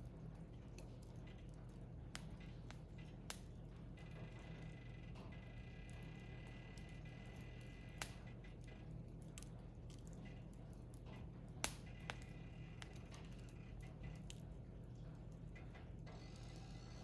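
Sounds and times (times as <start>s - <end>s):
wood fire crackling faintly: 0.0s - 17.0s.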